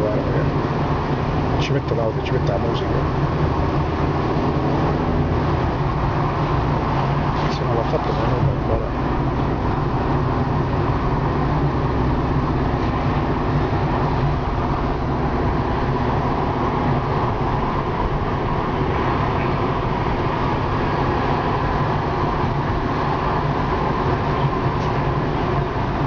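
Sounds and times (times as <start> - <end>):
car engine hum: 0.0 - 26.0
road rumble: 0.0 - 26.0.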